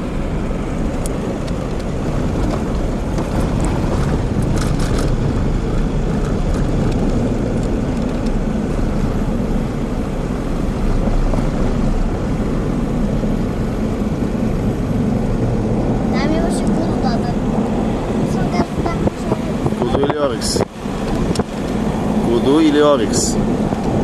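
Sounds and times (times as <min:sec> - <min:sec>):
engine and road rumble: 0:00.0 - 0:24.0
wind on microphone: 0:00.0 - 0:24.0.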